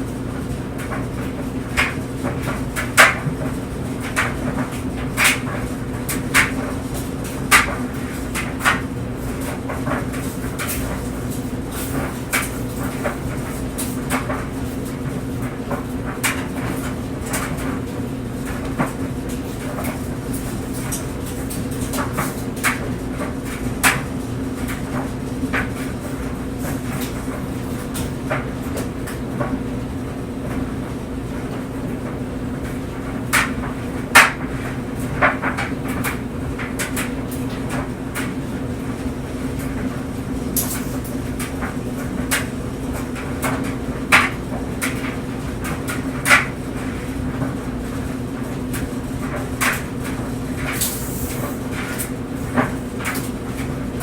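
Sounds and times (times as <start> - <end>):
clothes dryer motor hum: 0.0 - 54.0.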